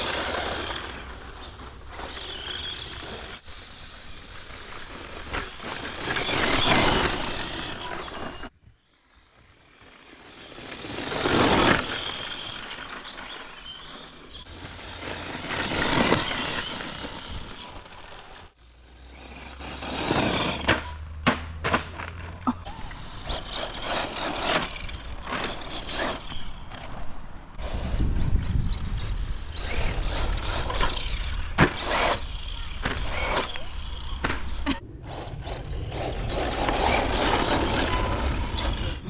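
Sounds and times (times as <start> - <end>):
electric rc car motor: 0.0 - 21.0, 22.7 - 39.0.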